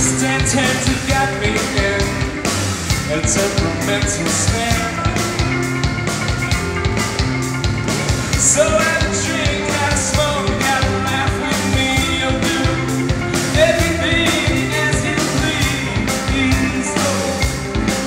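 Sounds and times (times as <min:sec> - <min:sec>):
person singing: 0:00.0 - 0:05.9, 0:08.3 - 0:18.0
drum beat: 0:00.0 - 0:18.0
rock song: 0:00.0 - 0:18.0.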